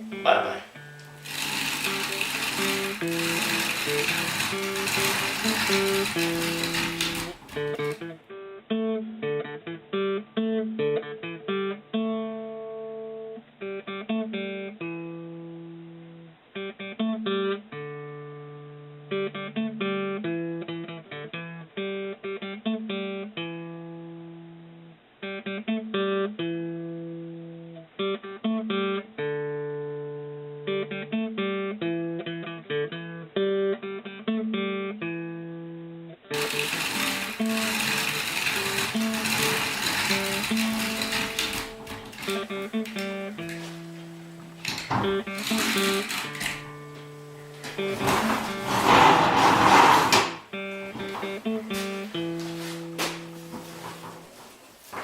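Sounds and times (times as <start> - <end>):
acoustic guitar melody: 0.0 - 55.0.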